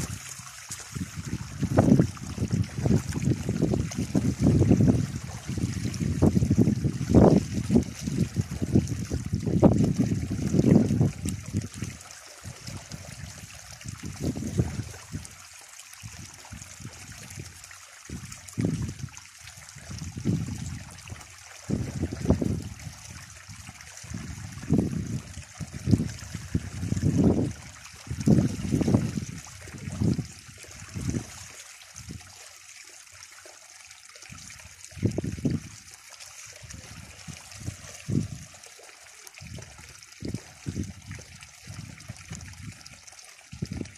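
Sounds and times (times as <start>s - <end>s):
water splashing into a bucket: 0.0s - 43.9s.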